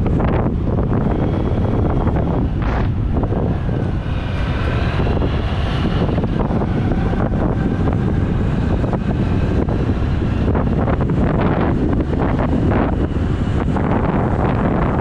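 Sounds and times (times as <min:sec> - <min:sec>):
motorcycle engine: 0:00.0 - 0:15.0
wind buffeting microphone: 0:00.0 - 0:15.0.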